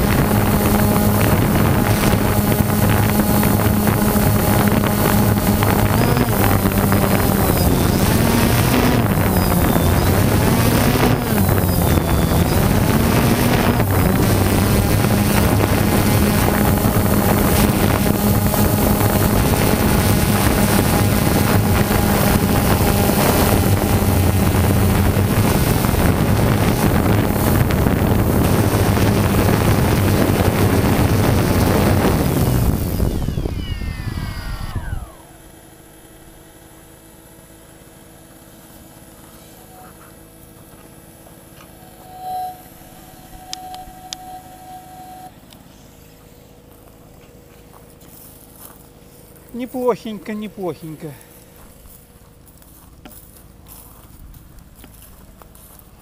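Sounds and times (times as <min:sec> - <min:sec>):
motors winding down: 0:00.0 - 0:45.6
drone motors buzzing: 0:00.0 - 0:46.8.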